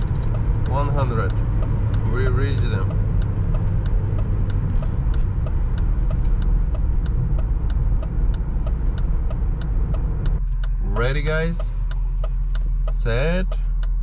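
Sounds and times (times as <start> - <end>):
engine and road rumble: 0.0 - 14.0
light regular ticking: 0.0 - 14.0.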